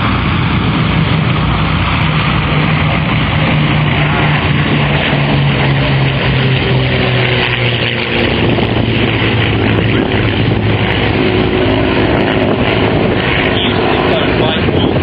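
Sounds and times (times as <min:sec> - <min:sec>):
piston aircraft engines droning: 0:00.0 - 0:15.0
wind noise on microphone: 0:00.0 - 0:15.0.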